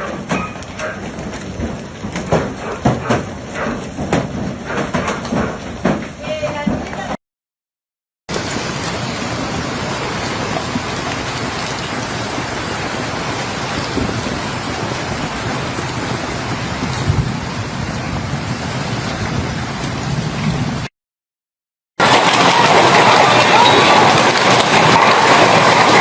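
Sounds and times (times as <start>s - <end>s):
heavy rain pelting down: 0.0s - 5.8s, 8.3s - 20.9s, 22.0s - 26.0s.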